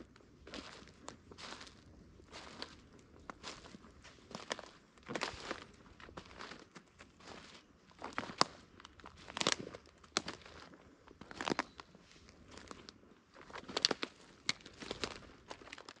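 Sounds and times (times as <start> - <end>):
footsteps crunching dry leaves: 0.4 - 16.0.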